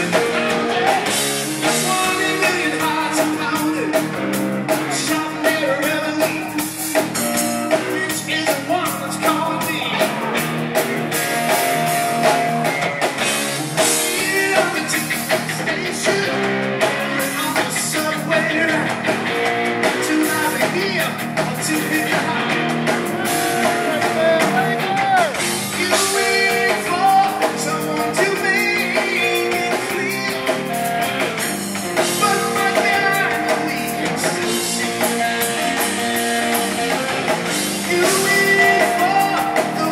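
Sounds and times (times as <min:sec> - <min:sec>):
man singing lead vocal: 0:00.0 - 0:10.4, 0:13.8 - 0:19.2, 0:19.8 - 0:31.4, 0:32.0 - 0:37.0, 0:37.6 - 0:39.9
electric guitar: 0:00.0 - 0:39.9
live rock band playing: 0:00.0 - 0:39.9.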